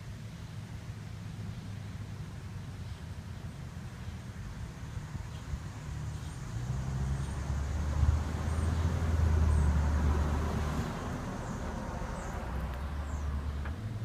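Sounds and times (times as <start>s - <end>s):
passing vehicle rumble and tyre hiss: 0.0s - 14.0s.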